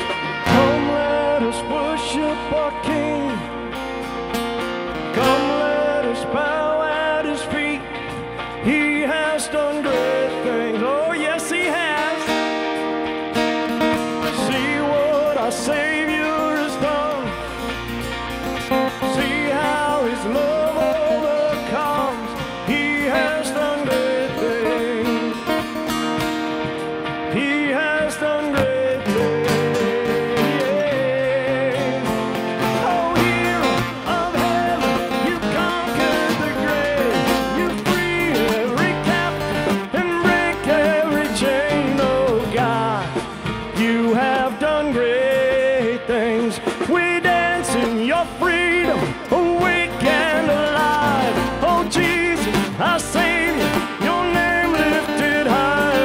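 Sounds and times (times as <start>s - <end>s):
bass guitar: 0.0s - 56.0s
drums: 0.0s - 56.0s
man singing: 0.0s - 56.0s
strummed guitars: 0.0s - 56.0s.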